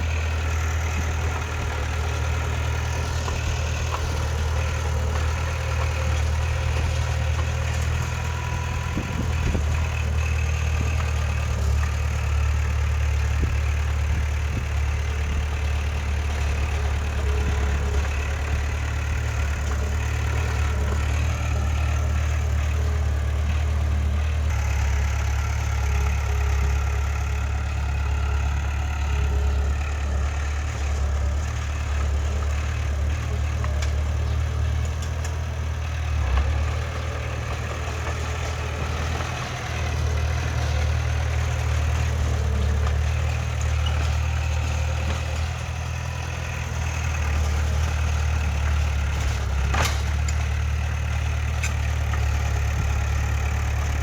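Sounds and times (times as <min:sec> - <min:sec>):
engine clatter: 0:00.0 - 0:54.0
heavy machinery diesel engine running: 0:00.0 - 0:54.0.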